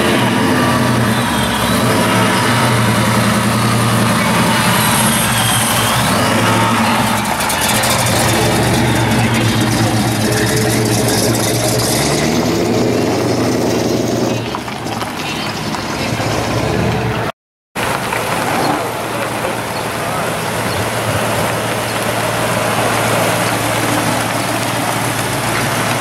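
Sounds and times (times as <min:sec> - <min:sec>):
car engine rolling up: 0:00.0 - 0:26.0
car engine rumble driving past: 0:00.0 - 0:26.0.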